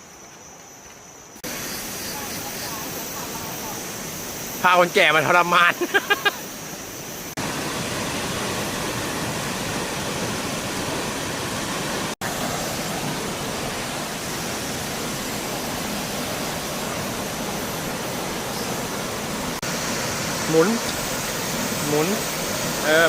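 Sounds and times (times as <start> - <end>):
waterfall rushing: 1.5 - 23.0.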